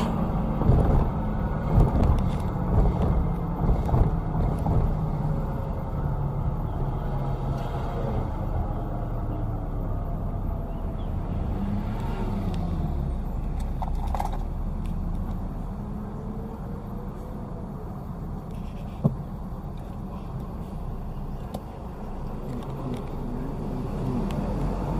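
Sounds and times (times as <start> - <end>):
diesel engine rumbling: 0.0 - 24.9.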